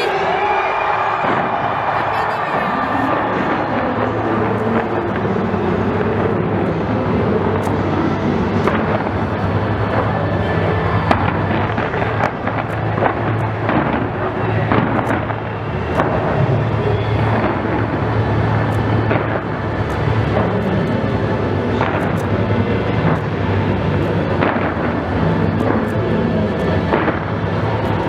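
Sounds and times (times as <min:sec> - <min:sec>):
fireworks bangs and crackles: 0:01.2 - 0:28.0.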